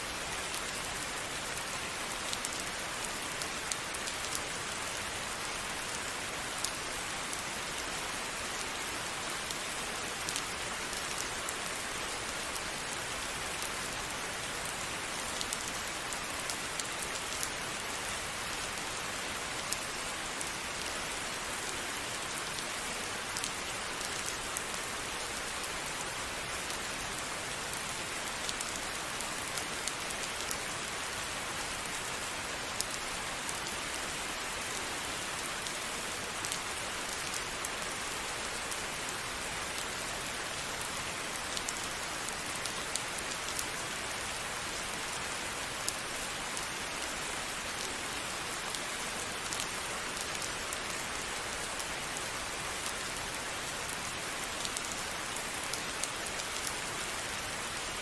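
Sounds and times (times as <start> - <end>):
steady rain hiss: 0.0 - 58.0
raindrops ticking on a surface: 0.1 - 58.0.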